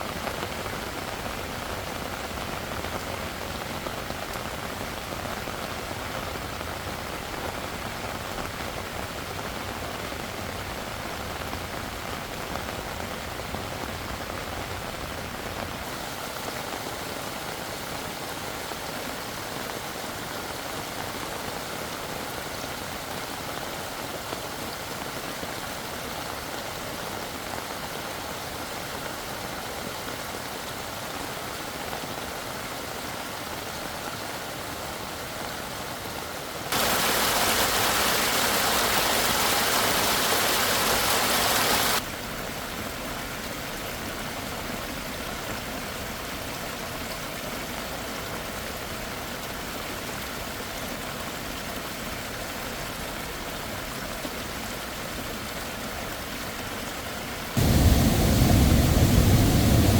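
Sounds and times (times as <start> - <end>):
heavy rain falling: 0.0 - 51.3, 54.8 - 59.9.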